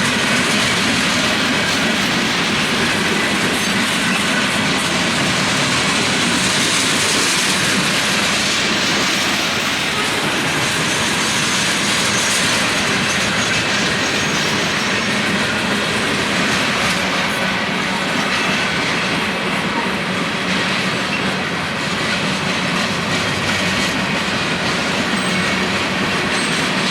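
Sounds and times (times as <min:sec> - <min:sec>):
steel wheels rolling on rails: 0:00.0 - 0:26.9.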